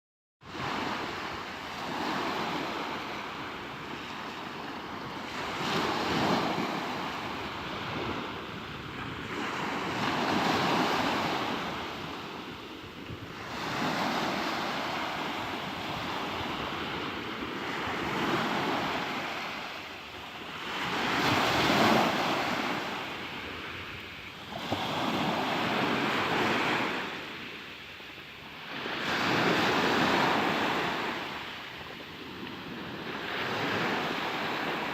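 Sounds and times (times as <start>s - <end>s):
surf breaking and washing in: 0.4s - 34.9s.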